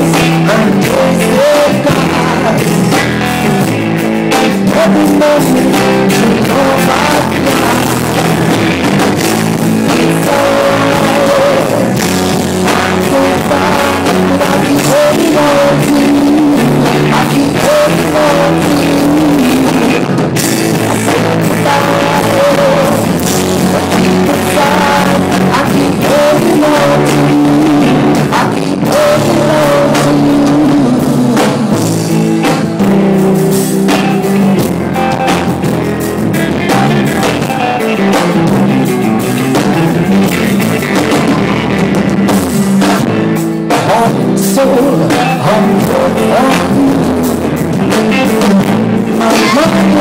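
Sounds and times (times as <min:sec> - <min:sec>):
drum kit: 0:00.0 - 0:50.0
electric guitars: 0:00.0 - 0:50.0.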